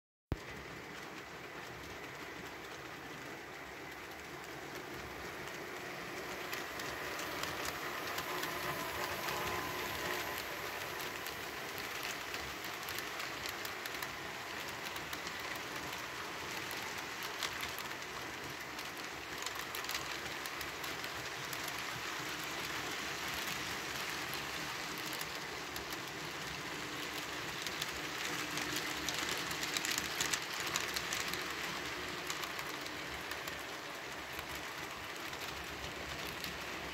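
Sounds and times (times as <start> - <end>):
model train wheels clicking on rails: 0.3 - 36.9.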